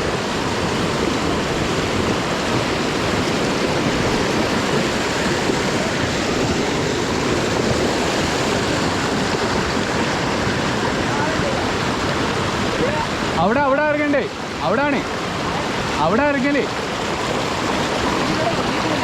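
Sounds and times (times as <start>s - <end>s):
water rushing down waterfall: 0.0s - 19.0s.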